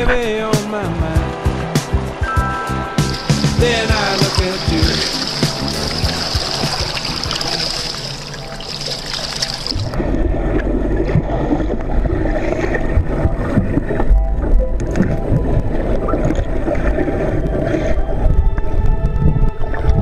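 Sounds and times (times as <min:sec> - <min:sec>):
pool water splashing and lapping: 0:01.5 - 0:18.8
muffled underwater rumbling: 0:03.1 - 0:20.0.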